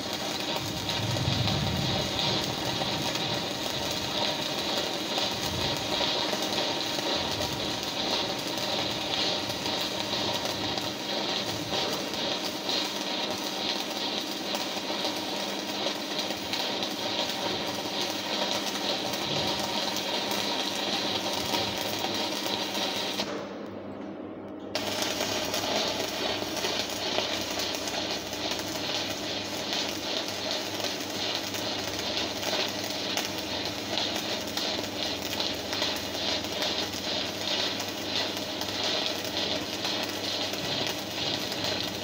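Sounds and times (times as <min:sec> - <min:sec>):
welding arc crackling: 0:00.0 - 0:23.4, 0:24.8 - 0:42.0.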